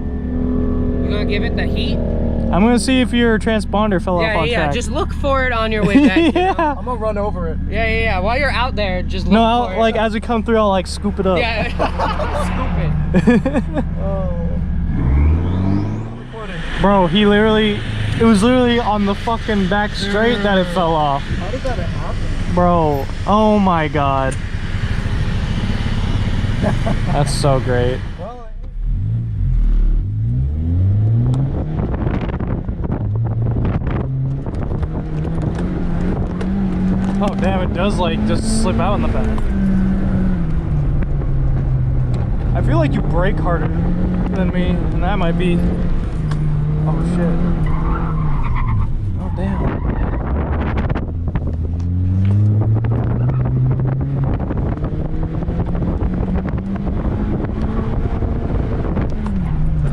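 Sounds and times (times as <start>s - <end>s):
car engine accelerating hard: 0.0s - 59.9s
wind and tyre noise: 0.0s - 59.9s.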